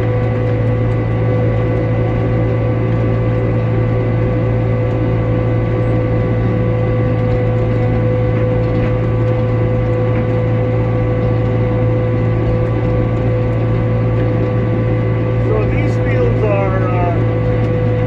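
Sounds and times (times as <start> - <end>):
low engine drone: 0.0 - 18.0
steady machine whine: 0.0 - 18.0.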